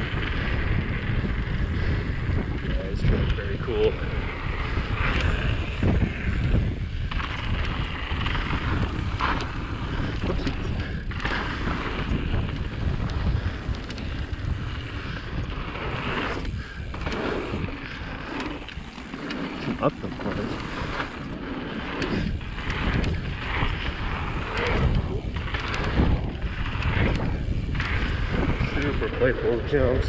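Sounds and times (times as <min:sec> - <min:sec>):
bike tyres rolling on dirt: 0:00.0 - 0:30.0
wind rushing over microphone: 0:00.0 - 0:30.0.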